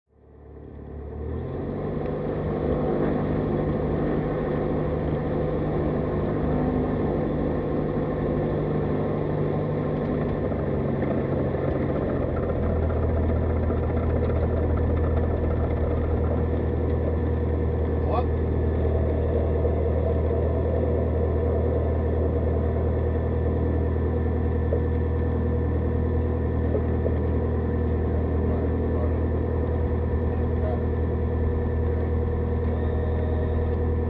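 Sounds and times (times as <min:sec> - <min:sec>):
light aircraft engine and propeller: 0:00.1 - 0:34.0.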